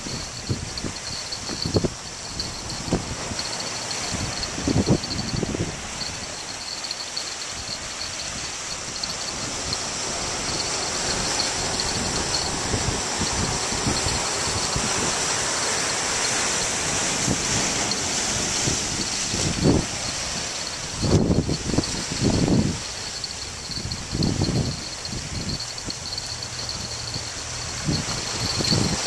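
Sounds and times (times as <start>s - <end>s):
ocean surf breaking on rocks: 0.0s - 29.0s
wind buffeting microphone: 0.0s - 29.0s.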